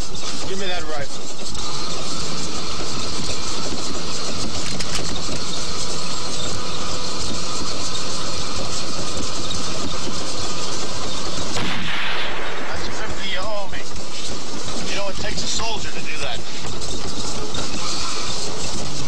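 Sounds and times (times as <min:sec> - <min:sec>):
moving train rumble and rattle: 0:00.0 - 0:19.0.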